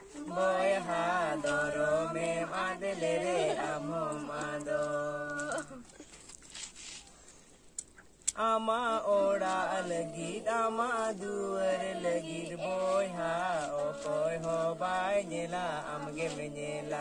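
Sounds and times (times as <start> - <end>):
young voices singing unaccompanied: 0.0 - 5.9, 8.4 - 17.0.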